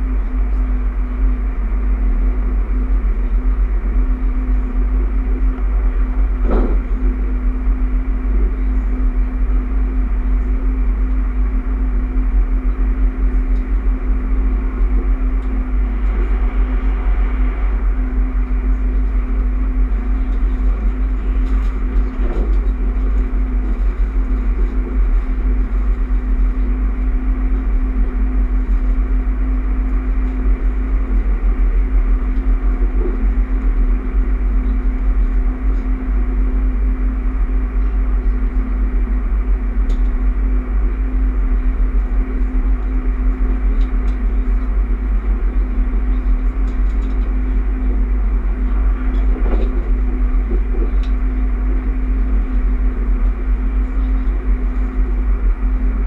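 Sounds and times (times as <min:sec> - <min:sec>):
constant train hum: 0:00.0 - 0:56.0
wheels rumbling on rails: 0:00.0 - 0:56.0.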